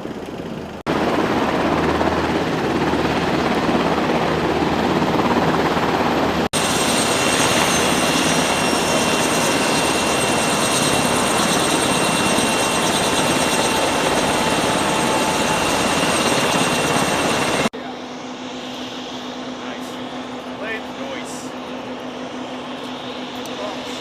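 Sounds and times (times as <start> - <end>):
helicopter rotor chop: 0.0 - 24.0
high engine whine: 0.0 - 24.0.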